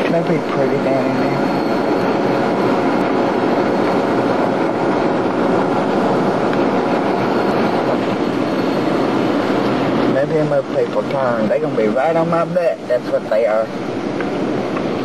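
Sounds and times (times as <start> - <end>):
car rumble and hiss: 0.0 - 15.0.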